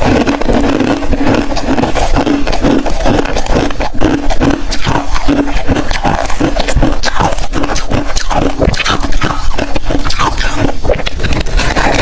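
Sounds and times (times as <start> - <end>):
ice being chewed: 0.0 - 12.0.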